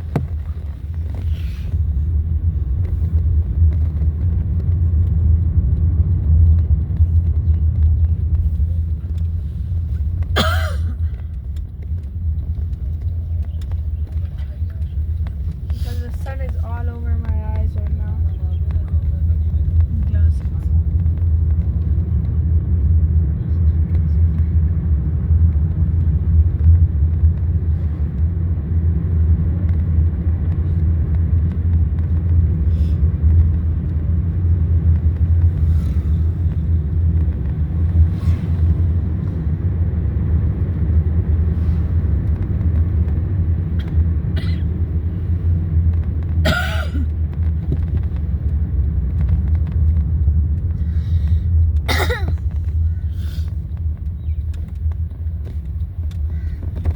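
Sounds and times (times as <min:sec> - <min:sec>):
car rumble: 0:00.0 - 0:56.9.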